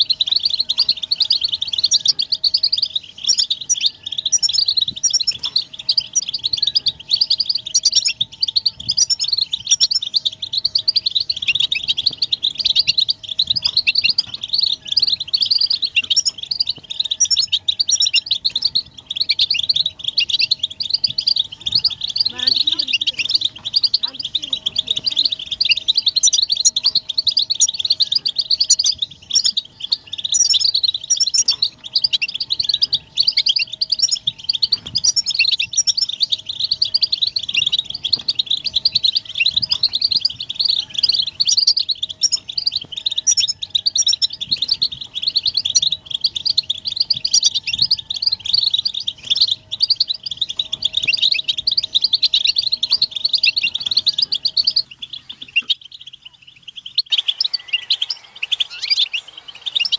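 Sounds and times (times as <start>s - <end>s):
finches chattering and twittering: 0.0s - 59.9s.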